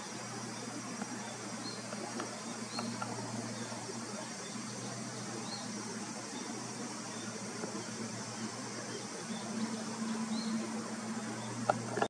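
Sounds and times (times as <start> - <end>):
outdoor hiss and low hum: 0.0 - 12.0.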